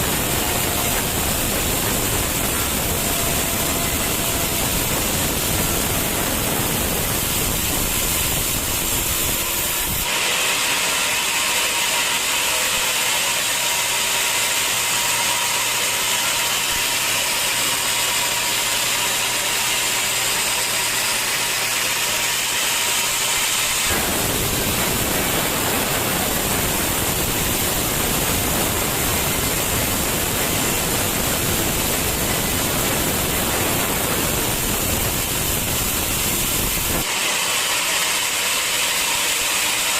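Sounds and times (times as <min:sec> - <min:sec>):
sawmill saw and machinery running: 0:00.0 - 0:39.9.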